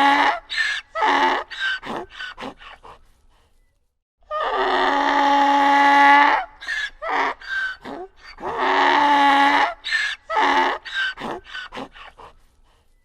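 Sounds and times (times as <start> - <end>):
donkey braying: 0.0 - 3.0, 4.3 - 12.4.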